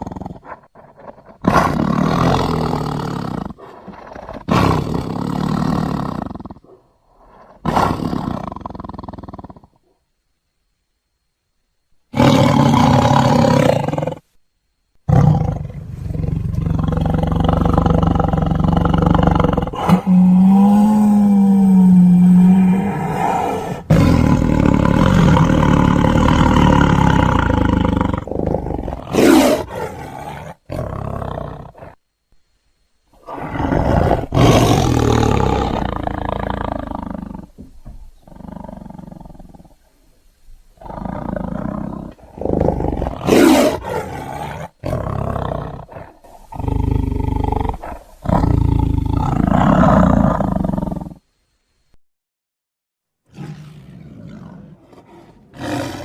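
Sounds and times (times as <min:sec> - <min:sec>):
tiger roaring: 0:00.0 - 0:09.9, 0:12.1 - 0:14.3, 0:15.1 - 0:32.0, 0:33.2 - 0:39.9, 0:40.7 - 0:51.2, 0:53.3 - 0:56.0.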